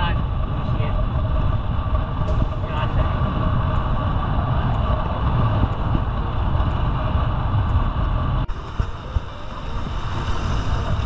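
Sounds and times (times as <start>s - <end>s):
bicycle tyre road noise: 0.0s - 11.0s
wind rushing over microphone: 0.0s - 11.0s.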